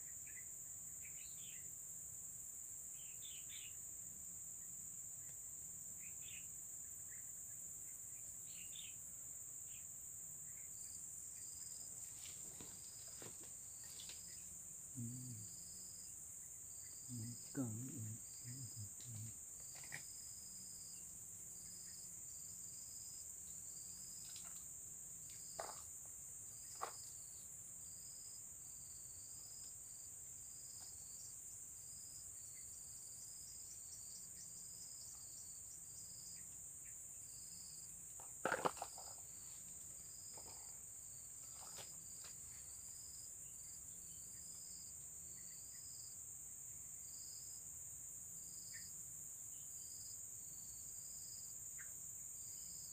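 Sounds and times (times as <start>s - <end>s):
insect chirp: 0.0s - 52.9s.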